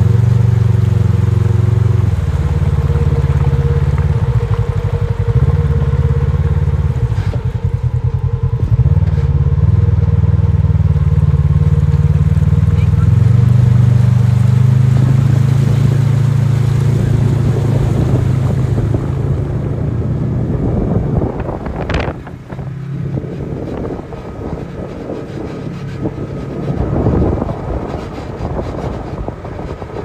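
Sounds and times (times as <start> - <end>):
off-road vehicle engine running: 0.0 - 30.0.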